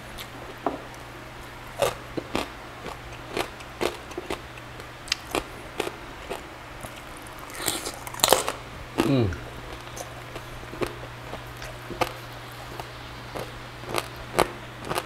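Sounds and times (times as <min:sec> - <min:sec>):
crunchy chewing: 0:01.7 - 0:15.0.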